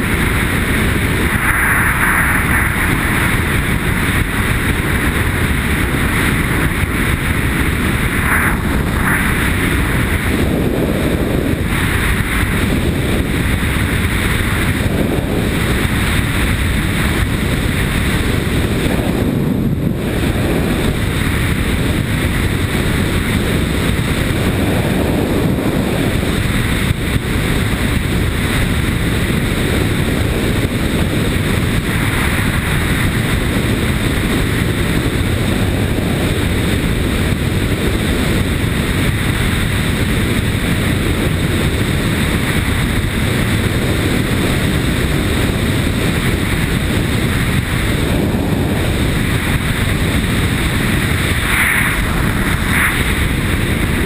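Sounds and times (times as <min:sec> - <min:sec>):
motorcycle engine: 0:00.0 - 0:54.0
wind buffeting microphone: 0:00.0 - 0:54.0.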